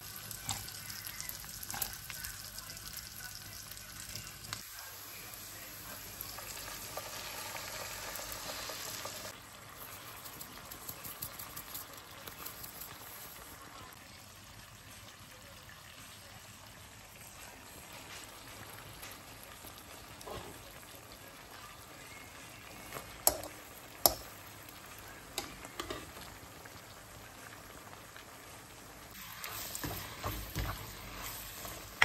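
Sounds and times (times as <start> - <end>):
mushrooms sizzling in a pan: 0.0 - 32.0.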